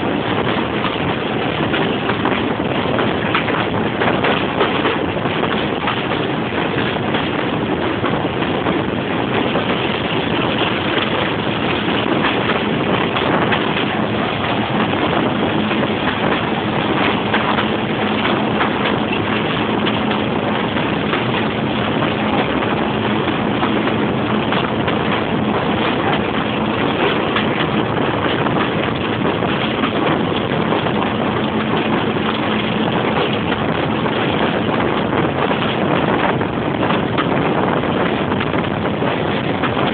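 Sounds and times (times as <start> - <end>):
diesel locomotive engine running: 0.0 - 39.9
rush of air: 0.0 - 39.9
train running noise: 0.0 - 39.9.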